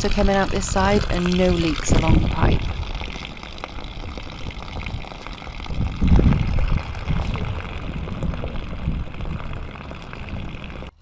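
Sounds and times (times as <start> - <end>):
water trickling: 0.0 - 11.0
low rumble: 0.4 - 11.0.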